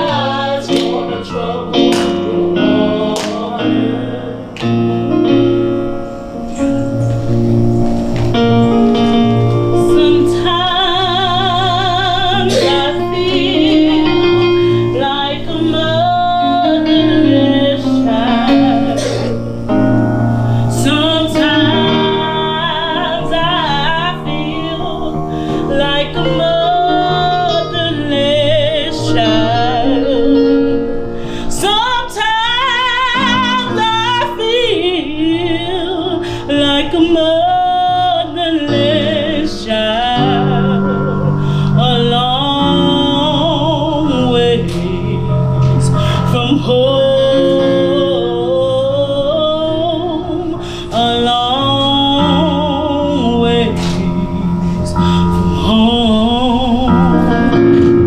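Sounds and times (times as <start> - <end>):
woman singing slow song: 0.0 - 5.4, 9.7 - 30.8, 31.4 - 58.0
instrumental accompaniment: 0.0 - 58.0.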